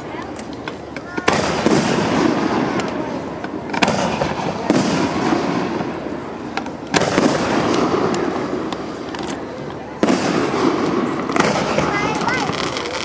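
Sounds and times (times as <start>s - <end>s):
fireworks bangs: 0.8s - 13.0s.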